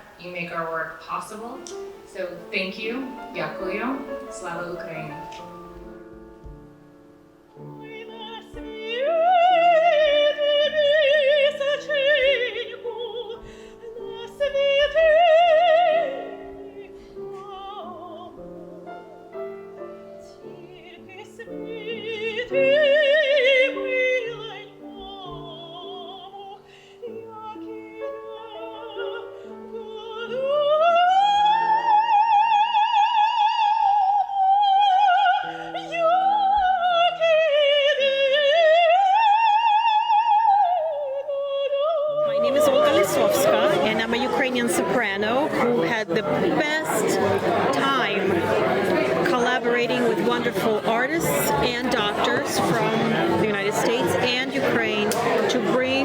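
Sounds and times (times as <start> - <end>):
piano accompaniment: 0.0 - 32.5, 42.2 - 56.0
operatic soprano singing: 7.5 - 56.0.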